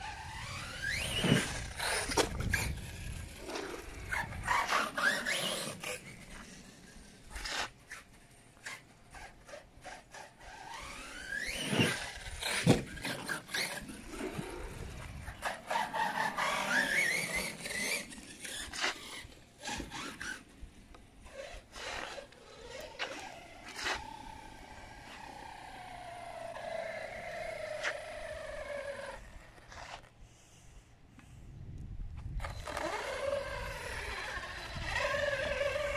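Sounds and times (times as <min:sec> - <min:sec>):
electric motor whining: 0:00.0 - 0:08.0, 0:08.6 - 0:20.5, 0:21.2 - 0:30.1, 0:32.3 - 0:35.9.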